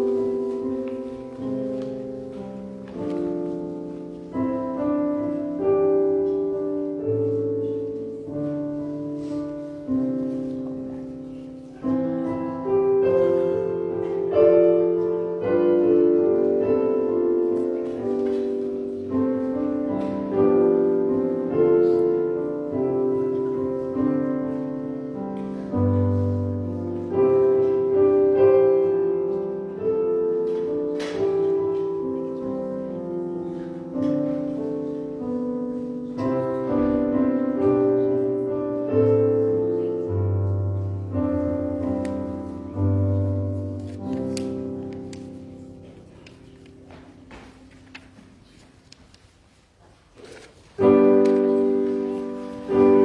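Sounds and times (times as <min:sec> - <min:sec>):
slow solo piano chords: 0:00.0 - 0:48.9, 0:50.8 - 0:53.0.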